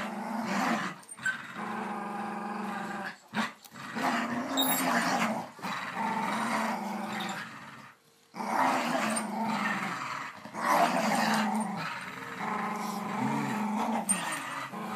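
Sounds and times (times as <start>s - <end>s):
dogs growling in play: 0.0s - 14.9s.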